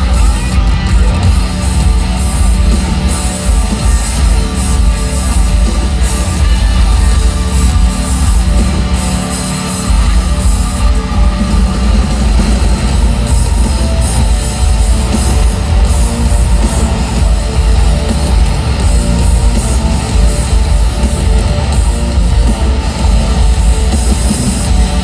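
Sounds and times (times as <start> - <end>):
electric guitar: 0.0 - 25.0
live rock band playing: 0.0 - 25.0.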